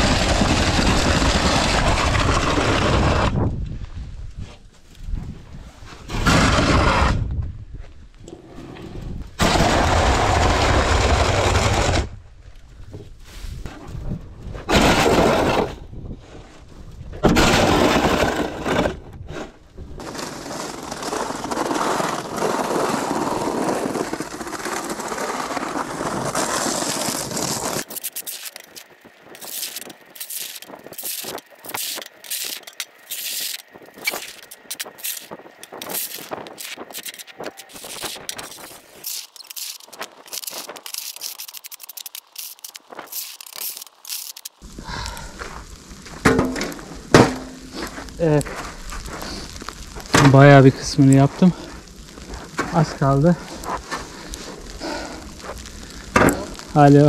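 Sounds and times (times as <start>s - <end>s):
snow shovel scraping pavement: 0.0s - 3.4s, 5.8s - 7.2s, 8.4s - 12.2s, 14.6s - 16.6s, 17.2s - 57.0s.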